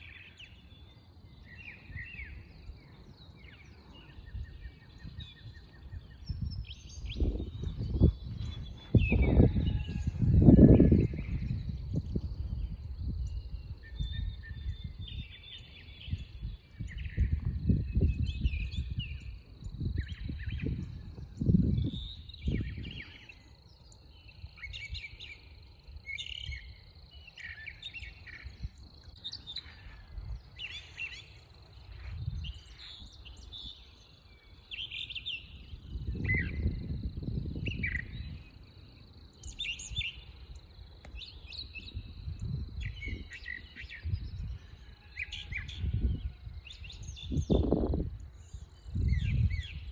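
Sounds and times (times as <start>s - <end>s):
wild birds chirping and singing: 0.0s - 49.9s.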